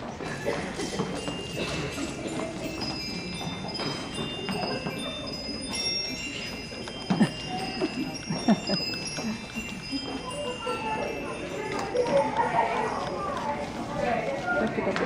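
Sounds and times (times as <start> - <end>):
low room murmur: 0.0 - 15.0
bell-like chime tones: 0.4 - 13.7.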